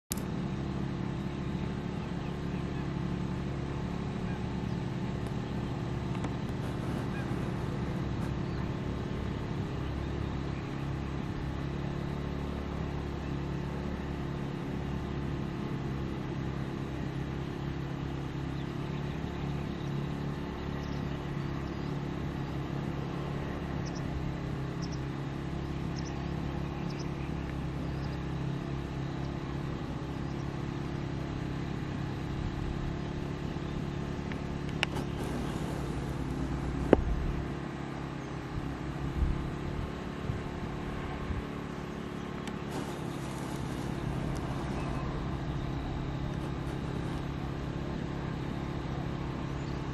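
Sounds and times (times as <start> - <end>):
engine hum: 0.0 - 49.9.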